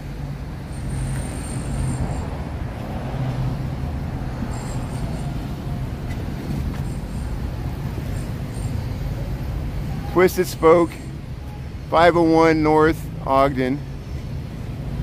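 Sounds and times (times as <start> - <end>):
street traffic hum: 0.0 - 15.0.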